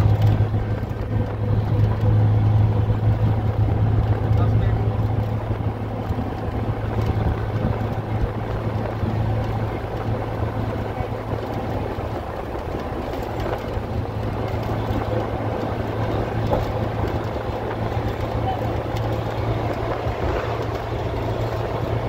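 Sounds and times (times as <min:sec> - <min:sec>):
low engine hum: 0:00.0 - 0:22.0
road and wind noise: 0:00.0 - 0:22.0.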